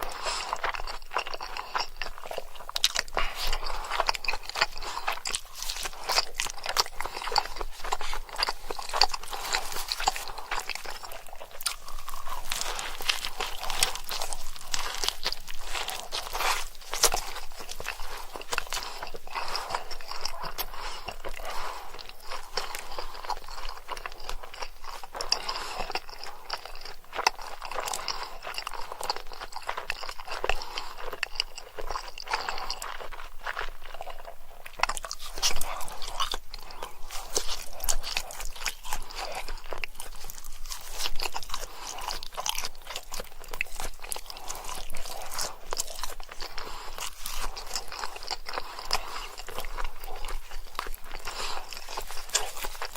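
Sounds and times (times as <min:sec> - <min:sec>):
crunchy food being chewed: 0:00.0 - 0:52.9.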